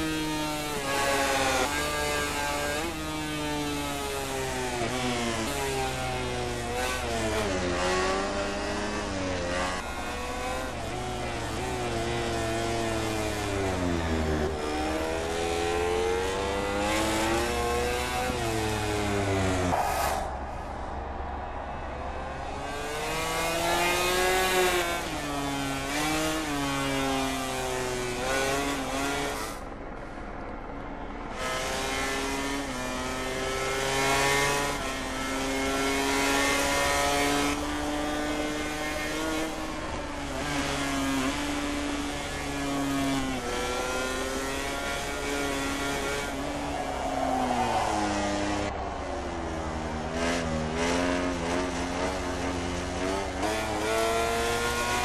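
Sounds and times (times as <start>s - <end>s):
racing motorcycle engines revving: 0.0s - 55.0s.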